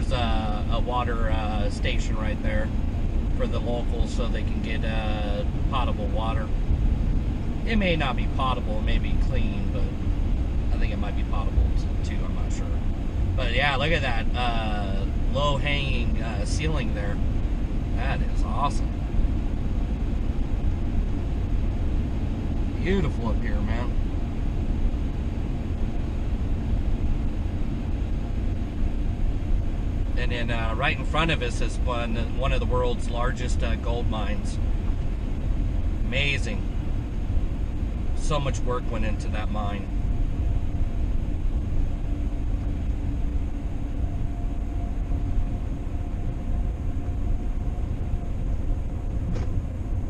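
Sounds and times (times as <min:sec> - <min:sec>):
faint constant hum: 0:00.0 - 0:50.0
vehicle engine and tyre rumble: 0:00.0 - 0:50.0.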